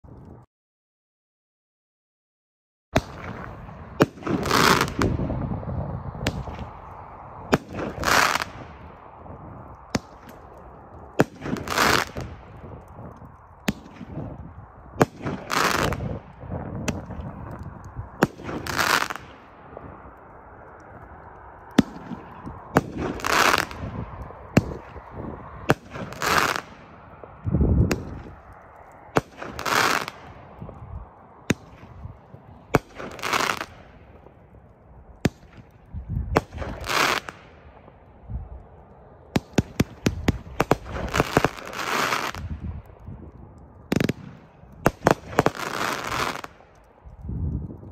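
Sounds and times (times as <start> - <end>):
fireworks launch and bursts: 3.0 - 20.2, 21.7 - 34.4, 35.2 - 38.0, 39.3 - 46.7
fireworks crackle: 3.0 - 47.9.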